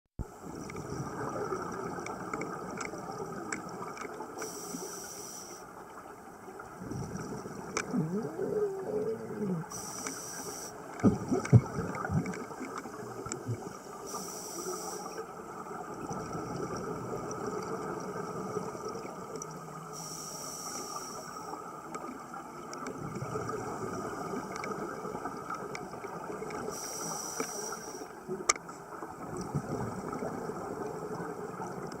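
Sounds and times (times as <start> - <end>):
steady underwater rush: 0.2 - 32.0.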